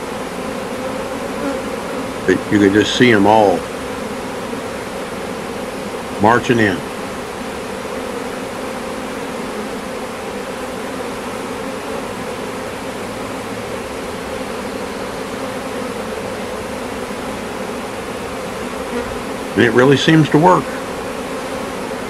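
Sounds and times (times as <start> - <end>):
honeybee swarm buzzing: 0.0 - 22.0.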